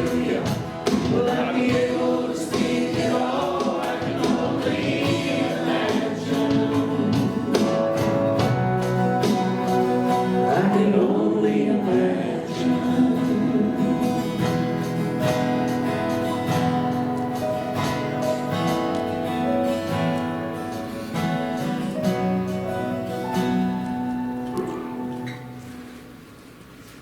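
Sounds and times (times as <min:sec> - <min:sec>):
live worship band music: 0:00.0 - 0:26.2
strummed acoustic guitar: 0:00.0 - 0:26.5.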